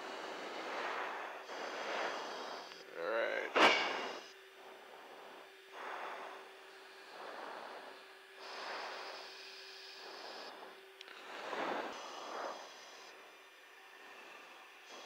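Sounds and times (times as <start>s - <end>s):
breathing into mask microphone: 0.0s - 2.9s, 3.5s - 13.4s
faint steady hum: 0.0s - 15.0s.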